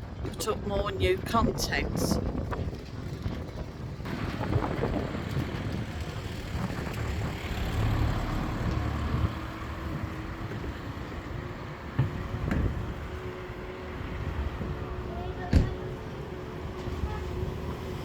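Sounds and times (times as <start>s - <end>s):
road traffic noise: 0.0s - 18.0s
wind rumbling on microphone: 0.0s - 18.0s.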